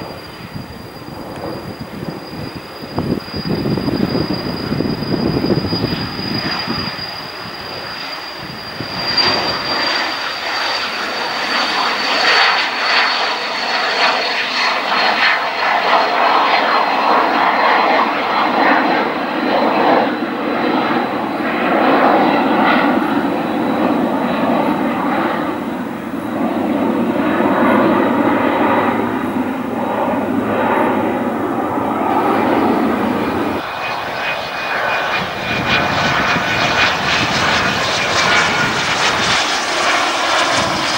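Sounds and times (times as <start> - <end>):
jet engine whine: 0.0 - 40.9
jet roar: 0.0 - 40.9.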